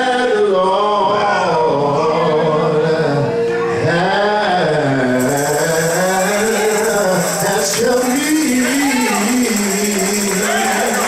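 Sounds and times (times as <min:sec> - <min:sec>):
gospel worship singing: 0:00.0 - 0:11.0.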